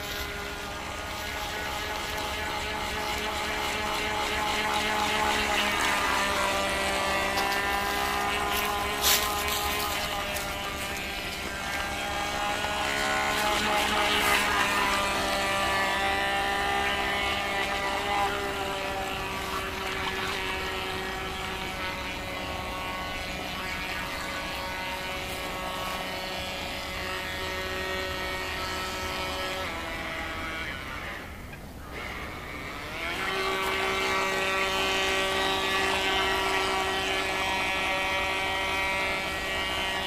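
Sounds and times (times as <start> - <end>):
toy boat motor whining: 0.0 - 40.0.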